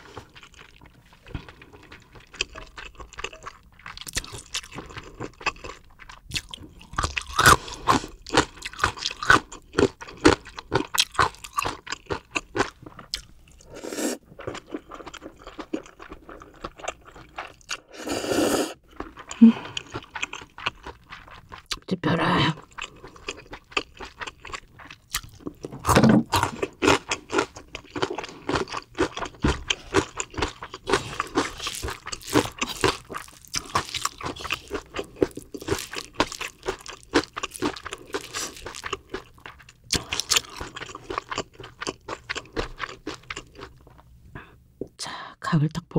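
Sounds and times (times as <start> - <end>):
chewing crisp food: 0.0 - 18.0, 18.8 - 21.9, 22.6 - 44.1.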